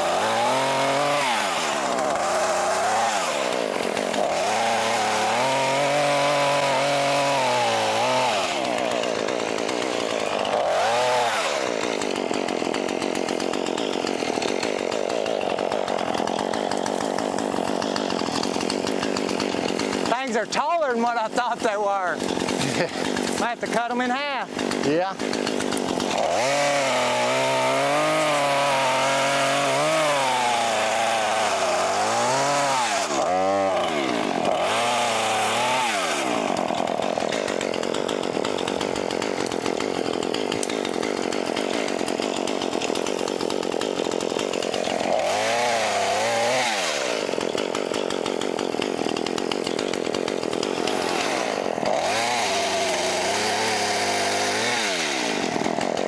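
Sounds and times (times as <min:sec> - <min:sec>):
chainsaw cutting and revving: 0:00.0 - 0:56.0.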